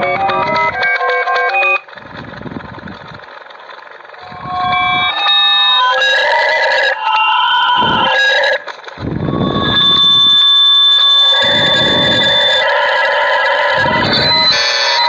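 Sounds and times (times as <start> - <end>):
dial-up modem connecting: 0.0 - 2.1, 4.2 - 15.0.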